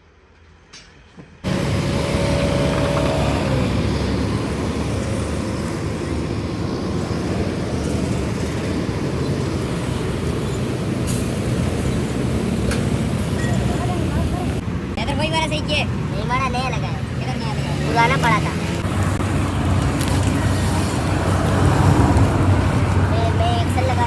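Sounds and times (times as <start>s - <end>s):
motor vehicle rumble: 1.4s - 24.0s.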